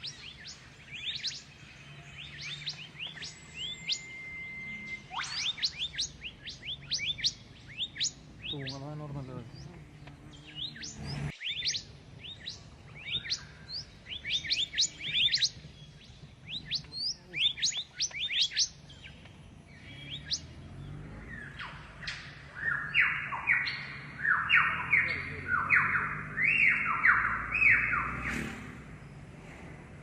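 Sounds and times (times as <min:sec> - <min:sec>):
birds chirping and whistling: 0:00.0 - 0:29.5.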